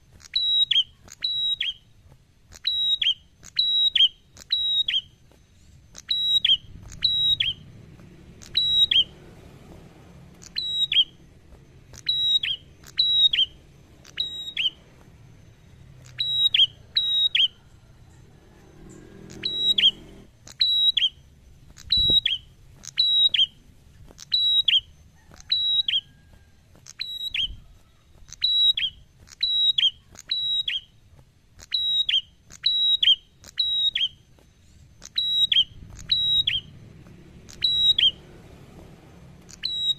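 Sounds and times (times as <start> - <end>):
songbird whistled call: 0.2 - 1.9, 2.5 - 7.8, 8.4 - 9.2, 10.4 - 23.6, 24.2 - 31.0, 31.6 - 36.9, 37.5 - 38.4, 39.4 - 39.9.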